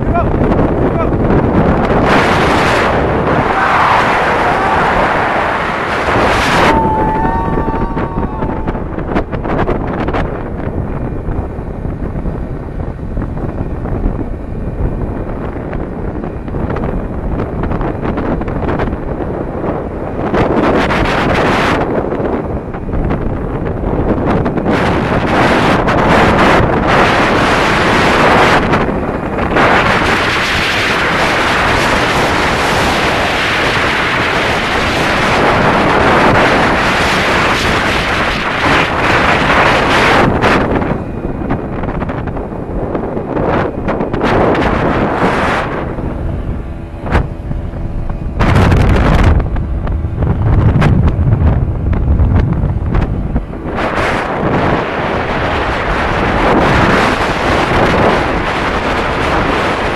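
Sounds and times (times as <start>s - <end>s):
vehicle running: 0.0s - 59.9s
wind buffeting microphone: 0.0s - 59.9s.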